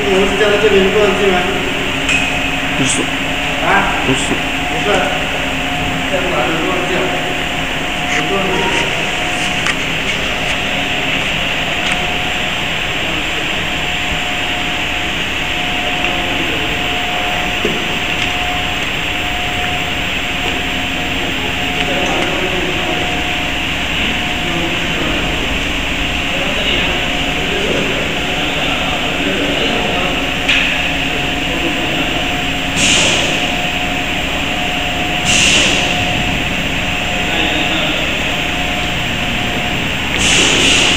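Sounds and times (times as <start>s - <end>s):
constant mid-pitched tone: 0.0s - 40.9s
faint steady whine: 0.0s - 40.9s
machinery whirring hum: 0.0s - 40.9s.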